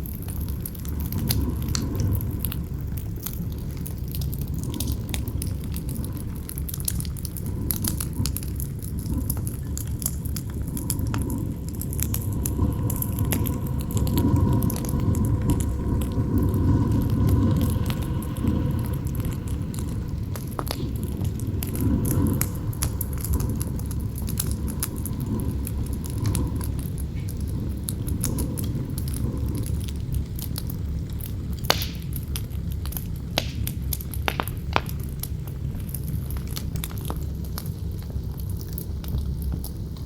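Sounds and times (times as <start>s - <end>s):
strong wind rumbling: 0.0s - 32.4s
wind howling: 0.0s - 32.5s
campfire crackling and popping: 0.0s - 40.0s.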